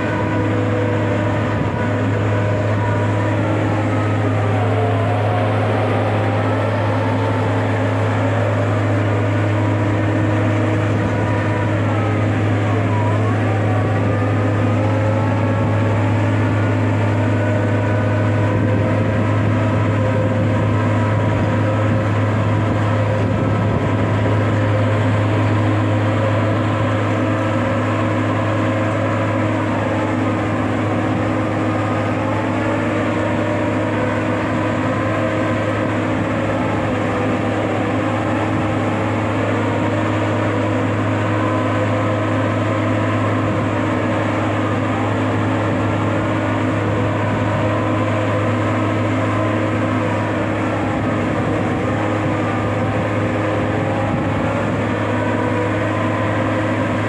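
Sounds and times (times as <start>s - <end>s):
diesel engine drone: 0.0s - 57.0s
hydraulic whine: 0.0s - 57.0s.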